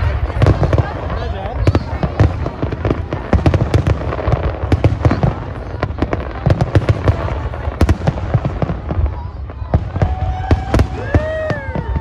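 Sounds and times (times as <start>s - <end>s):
deep firework booms: 0.0s - 12.0s
fireworks bangs and cracks: 0.0s - 12.0s.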